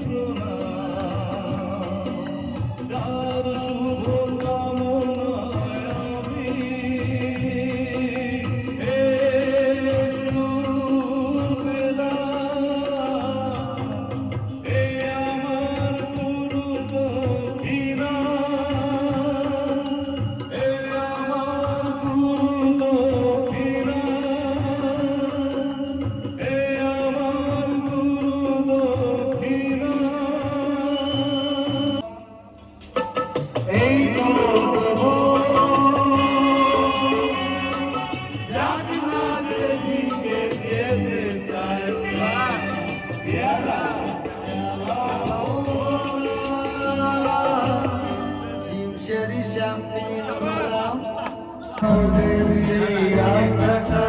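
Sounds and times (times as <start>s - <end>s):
song accompaniment with steady beat: 0.0s - 54.0s.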